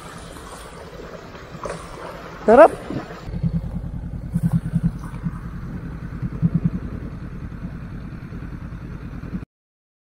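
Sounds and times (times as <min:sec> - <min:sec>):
motorcycle engine idling: 0:00.0 - 0:09.4.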